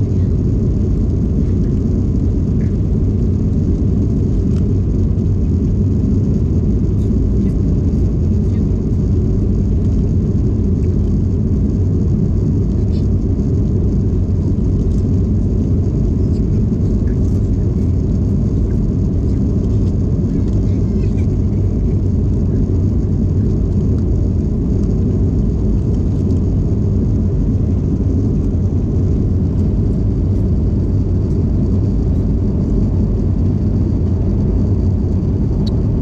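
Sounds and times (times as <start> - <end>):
airplane cabin engine rumble: 0.0 - 36.0.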